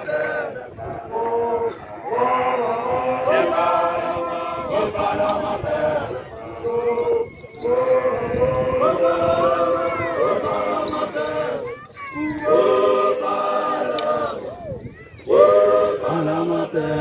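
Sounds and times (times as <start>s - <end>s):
men chanting in unison: 0.0s - 14.6s, 15.3s - 17.0s.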